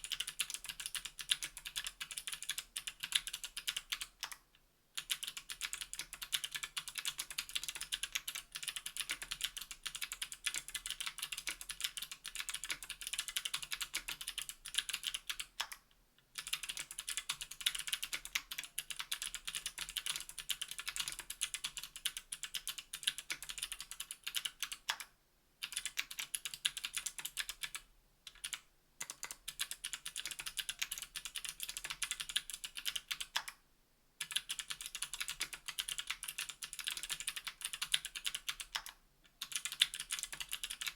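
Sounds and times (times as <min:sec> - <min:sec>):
fast typing on mechanical keyboard: 0:00.0 - 0:04.4, 0:05.0 - 0:15.8, 0:16.4 - 0:33.6, 0:34.2 - 0:40.9.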